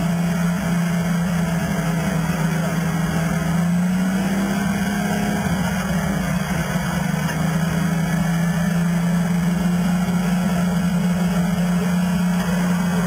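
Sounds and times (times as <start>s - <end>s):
engine running at fast idle: 0.0s - 13.0s.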